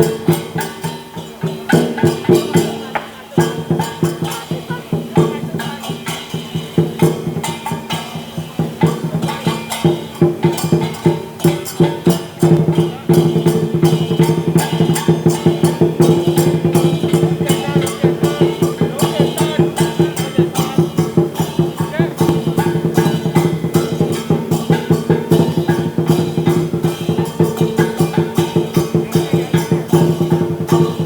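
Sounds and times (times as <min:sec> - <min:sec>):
percussion ensemble drums and gong: 0:00.0 - 0:31.0.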